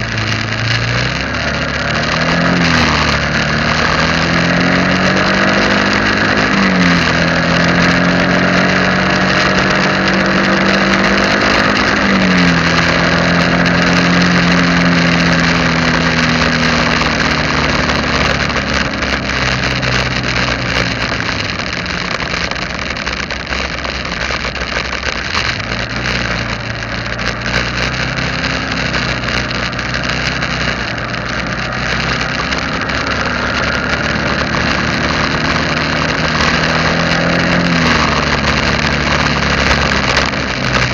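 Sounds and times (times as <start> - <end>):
road and wind noise: 0.0 - 40.9
vehicle engine changing gears: 0.0 - 40.9.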